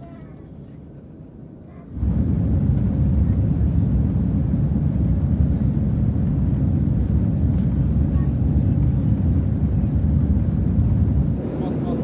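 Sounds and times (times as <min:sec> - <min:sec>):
airliner deep rumble: 0:00.0 - 0:12.0.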